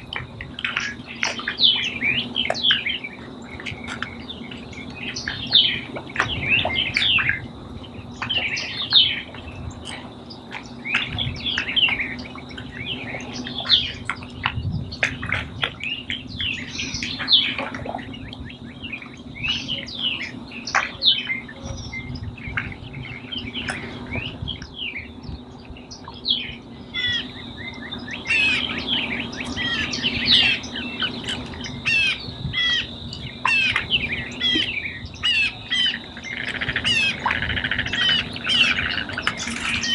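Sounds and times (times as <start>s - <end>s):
steady high whine: 0.0s - 39.9s
wild birds calling: 0.0s - 39.9s.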